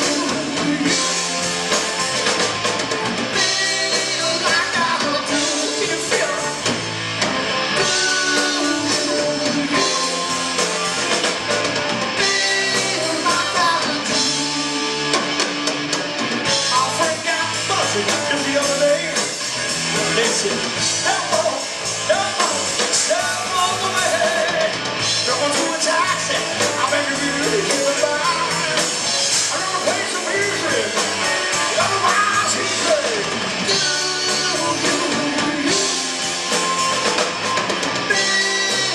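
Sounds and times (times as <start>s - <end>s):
drum kit: 0.0s - 38.9s
electric guitars: 0.0s - 38.9s
keyboard: 0.0s - 38.9s.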